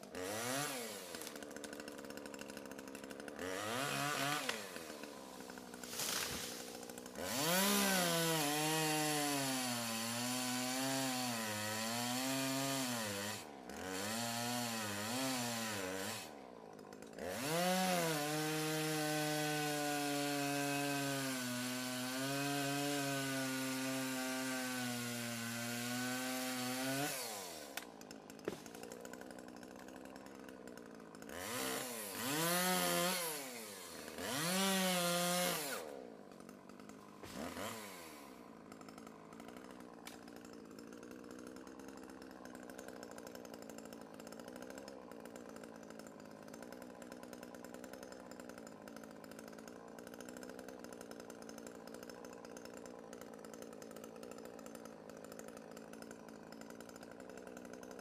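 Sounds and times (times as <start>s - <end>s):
electric chainsaw cutting log: 0.0s - 58.0s.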